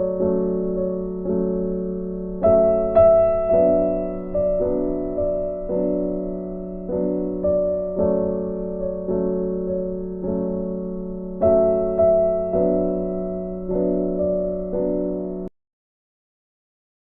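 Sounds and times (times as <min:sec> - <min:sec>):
soft piano chords: 0:00.0 - 0:15.5.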